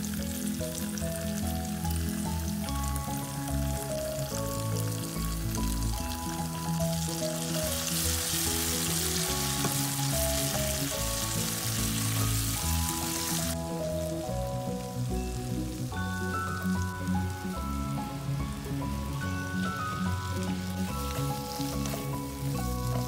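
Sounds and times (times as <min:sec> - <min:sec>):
background music: 0:00.0 - 0:23.0
onions sizzling in oil: 0:00.0 - 0:23.0.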